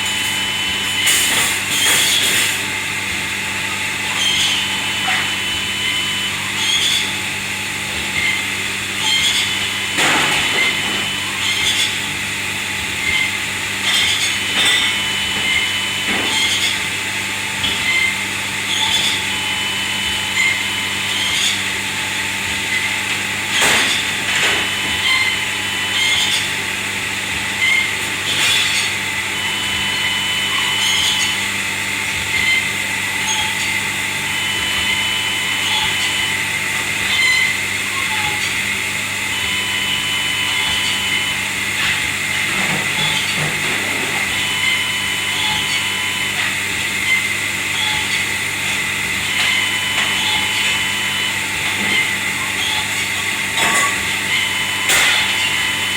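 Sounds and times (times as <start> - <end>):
loud machine noise: 0.0 - 55.9.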